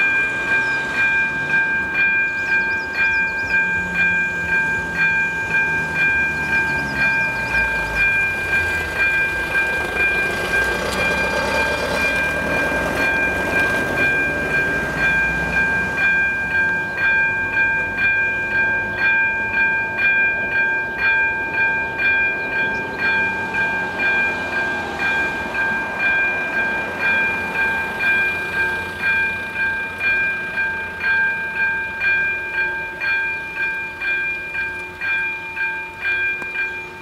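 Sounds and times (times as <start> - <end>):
level crossing warning bell: 0.0 - 37.0.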